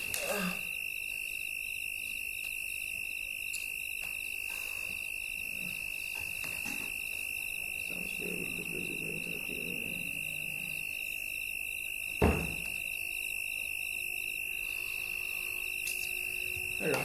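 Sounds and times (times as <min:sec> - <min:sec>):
high-pitched electronic whine: 0:00.0 - 0:17.0.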